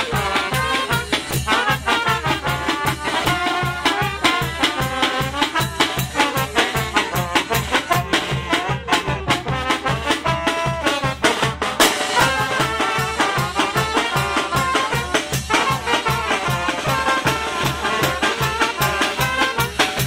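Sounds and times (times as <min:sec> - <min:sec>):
brass band playing: 0:00.0 - 0:20.0
steady drum beat: 0:00.0 - 0:20.0.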